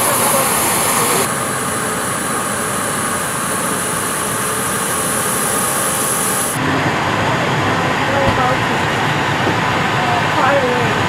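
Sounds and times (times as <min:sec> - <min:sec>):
aircraft engine hiss and whine: 0:00.0 - 0:11.0
low aircraft rumble: 0:00.0 - 0:11.0.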